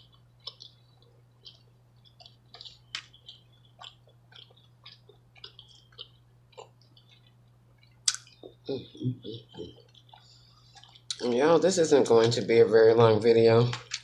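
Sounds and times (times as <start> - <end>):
wet chewing mouth clicks: 0.0 - 11.3.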